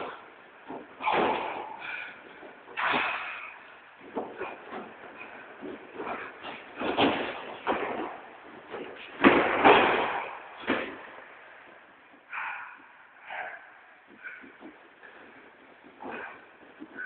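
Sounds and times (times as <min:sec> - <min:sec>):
bodies thudding onto a mat: 0:00.0 - 0:11.2, 0:14.1 - 0:17.0.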